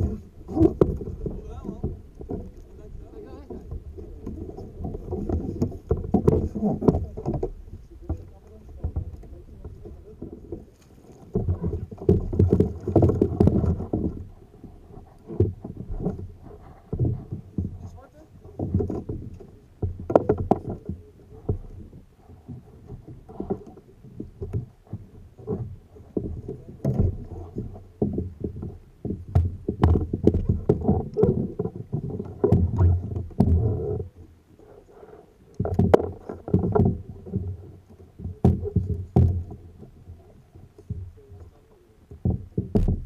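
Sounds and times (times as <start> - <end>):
knocks on hull: 0.0 - 34.2, 35.6 - 41.5, 42.1 - 43.0
water splashing against kayak: 0.0 - 43.0.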